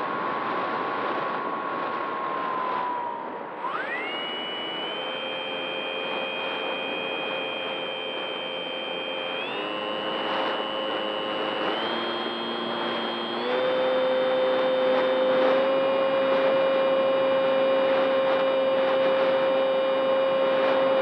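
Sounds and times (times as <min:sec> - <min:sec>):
high motor whine: 0:00.0 - 0:21.0.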